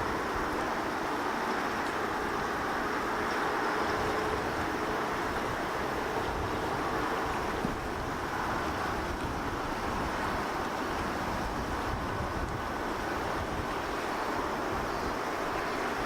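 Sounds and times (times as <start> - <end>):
wind buffeting microphone: 0.0 - 16.0
wind roaring: 0.0 - 16.0.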